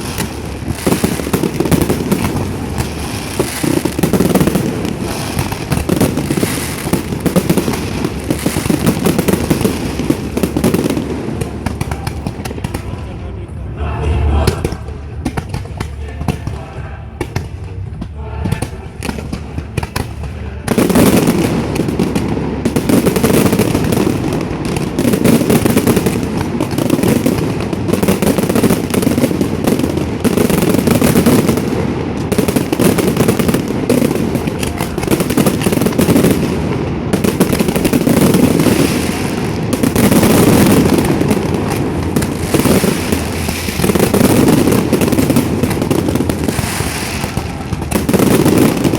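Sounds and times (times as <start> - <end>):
fireworks bangs and crackle: 0.0 - 13.4, 14.3 - 48.9.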